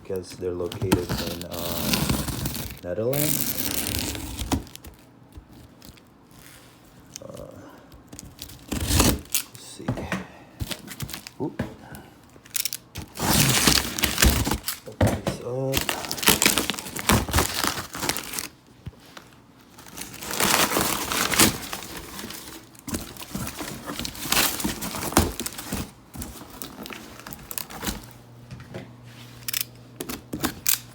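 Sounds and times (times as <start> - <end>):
crinkling packaging: 0.1 - 9.6, 10.6 - 11.5, 12.4 - 28.3.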